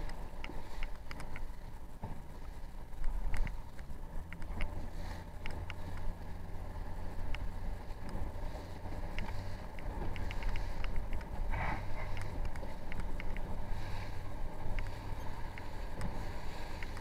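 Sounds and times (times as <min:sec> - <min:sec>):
low steady hum: 0:00.0 - 0:17.0
waves splashing against boat hull: 0:00.0 - 0:17.0
wind on microphone: 0:00.0 - 0:17.0.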